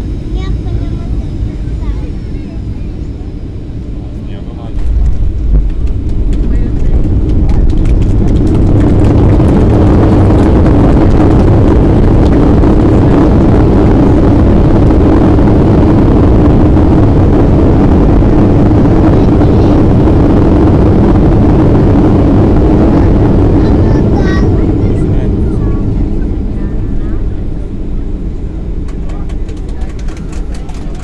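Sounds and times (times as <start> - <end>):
jet engine roar in cabin: 0.0 - 31.0.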